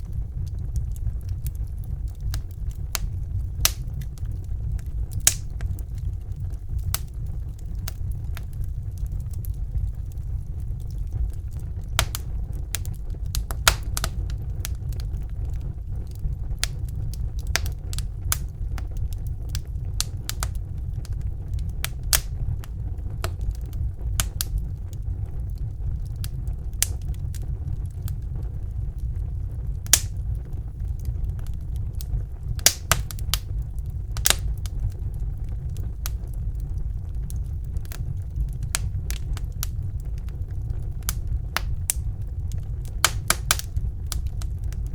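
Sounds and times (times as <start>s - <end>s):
fire crackling and popping: 0.0s - 44.9s
low rumble of flames: 0.0s - 44.9s.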